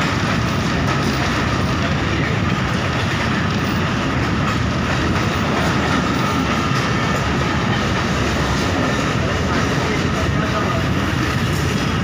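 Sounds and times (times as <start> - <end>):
train coach rumbling on rails: 0.0 - 12.0.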